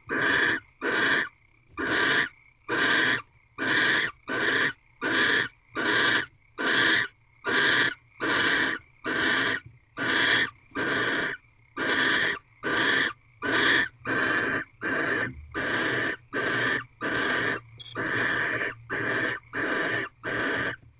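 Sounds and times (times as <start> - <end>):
barn owl hissing screeches: 0.1 - 20.8.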